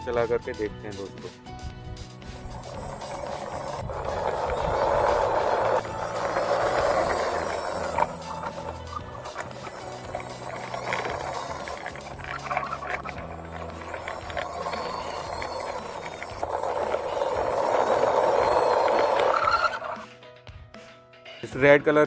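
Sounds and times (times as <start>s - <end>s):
toy train motor whirring and clicking: 2.0s - 20.1s.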